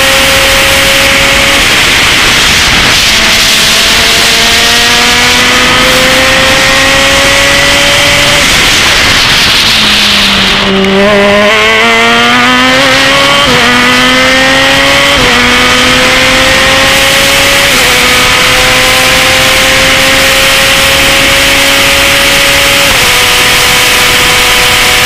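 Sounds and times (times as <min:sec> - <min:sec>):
race car engine accelerating: 0:00.0 - 0:25.0
wind noise: 0:00.0 - 0:25.0.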